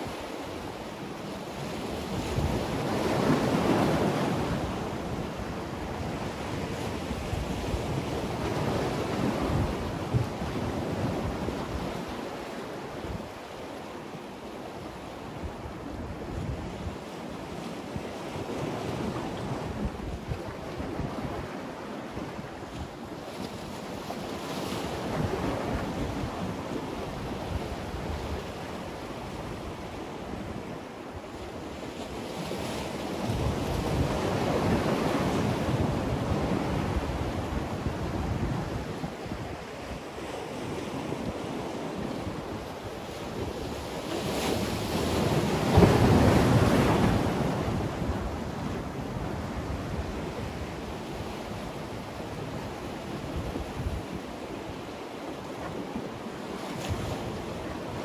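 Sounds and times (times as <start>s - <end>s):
wind on microphone: 0.0s - 13.5s, 14.8s - 58.0s.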